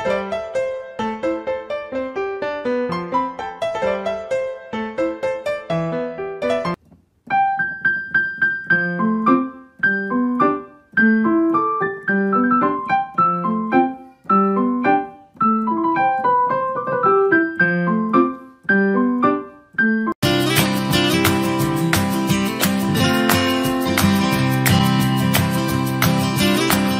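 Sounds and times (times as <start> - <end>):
piano music: 0.0 - 26.9.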